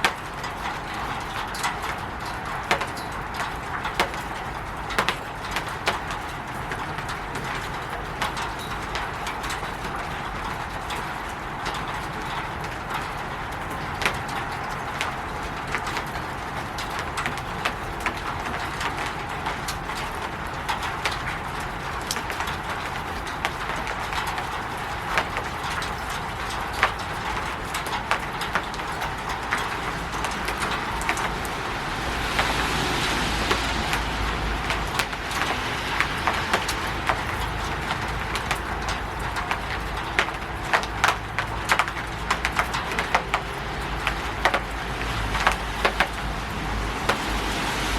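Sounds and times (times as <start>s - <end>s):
rain falling on a roof: 0.0s - 47.9s.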